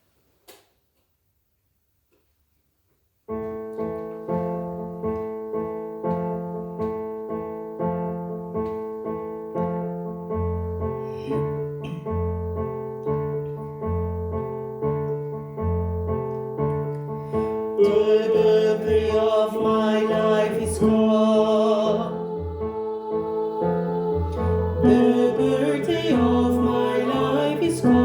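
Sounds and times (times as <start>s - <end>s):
low piano bass notes: 3.3s - 28.0s
piano repeated chords: 3.3s - 28.0s.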